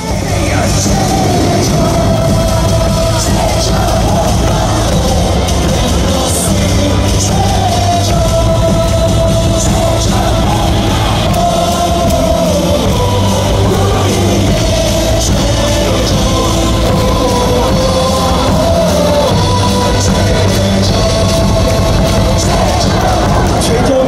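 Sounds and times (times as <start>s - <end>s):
cheer music over loudspeakers: 0.0s - 24.0s
voices singing along: 0.0s - 24.0s.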